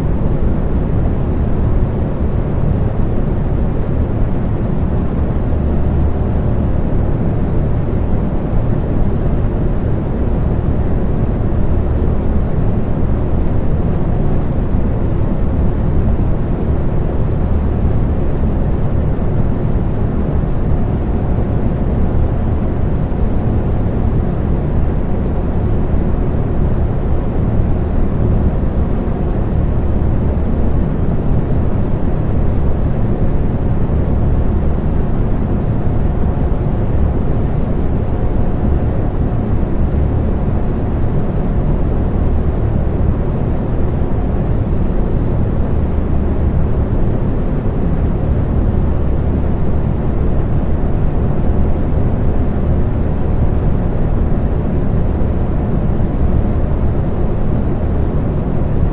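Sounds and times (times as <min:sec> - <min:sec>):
electric fan running: 0:00.0 - 0:58.9
faint steady hum: 0:00.0 - 0:58.9.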